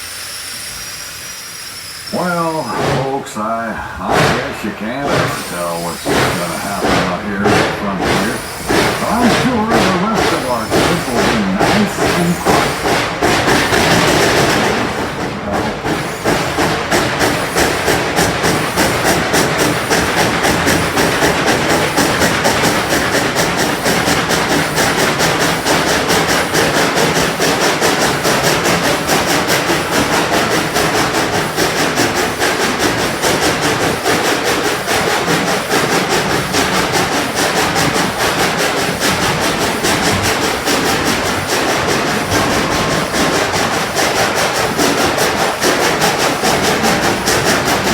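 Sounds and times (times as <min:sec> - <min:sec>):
train rhythmic clatter: 0:00.0 - 0:47.9.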